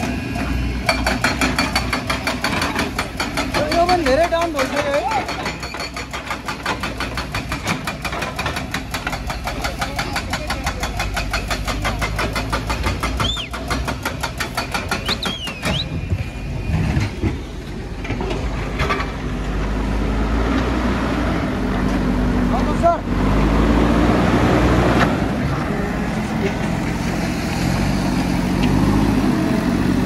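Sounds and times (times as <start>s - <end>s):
excavator diesel engine clattering: 0.0s - 30.0s.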